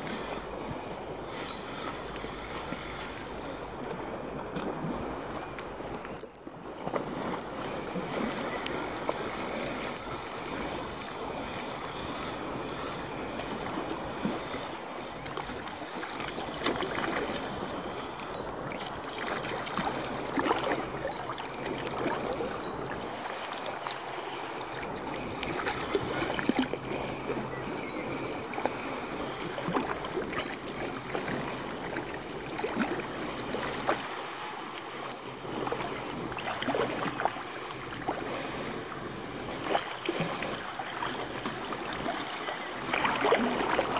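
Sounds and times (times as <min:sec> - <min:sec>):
small waves lapping: 0:00.0 - 0:43.9.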